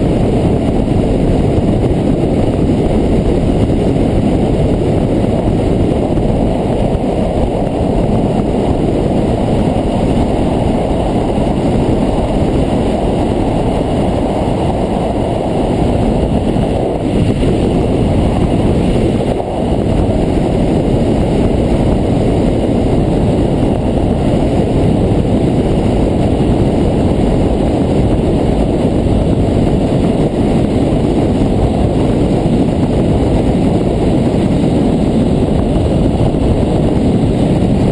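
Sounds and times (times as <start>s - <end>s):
motorcycle engine and tyre noise: 0.0s - 37.9s
wind buffeting microphone: 0.0s - 37.9s.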